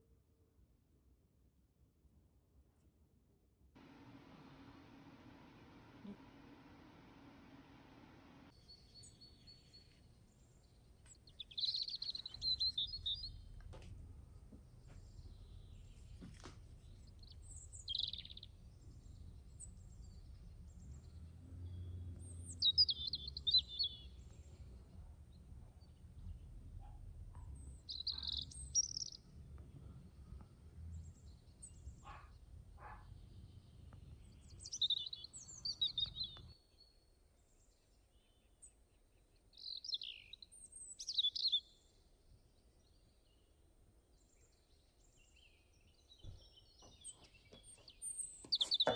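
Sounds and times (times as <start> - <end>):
small birds chirping: 8.0 - 48.9.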